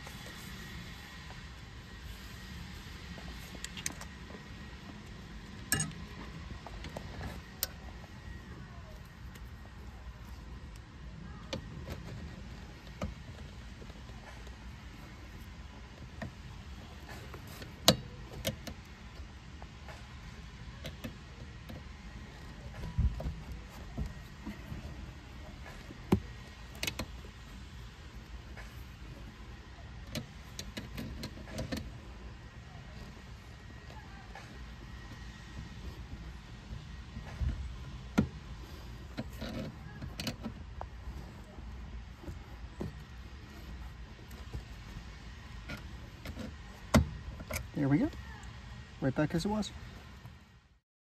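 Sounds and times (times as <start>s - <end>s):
low outdoor rumble: 0.0s - 50.8s.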